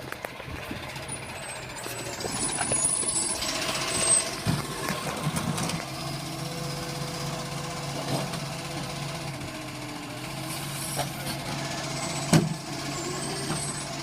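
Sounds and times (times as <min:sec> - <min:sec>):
heavy truck engine running: 0:00.0 - 0:14.0.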